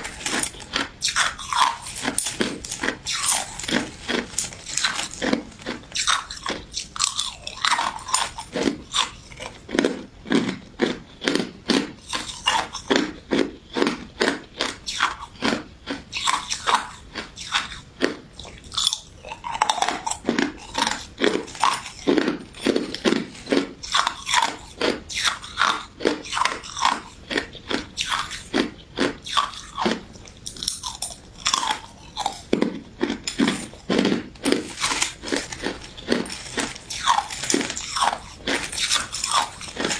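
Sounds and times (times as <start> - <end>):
crunchy ice chewing: 0.0 - 39.9.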